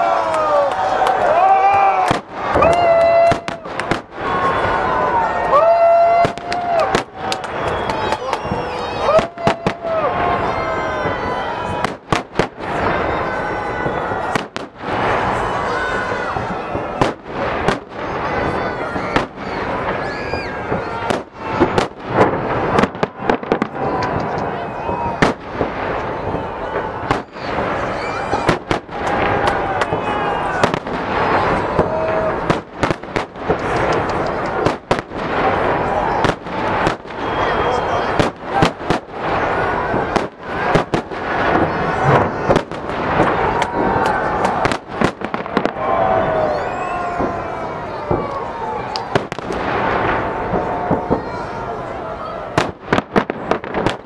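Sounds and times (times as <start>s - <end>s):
fireworks bursting with bangs: 0.0s - 54.0s
large crowd noise: 0.0s - 54.0s.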